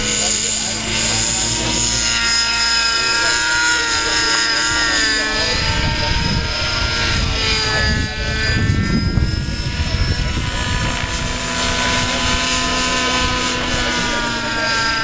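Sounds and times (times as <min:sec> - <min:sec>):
model helicopter motor whine: 0:00.0 - 0:15.0.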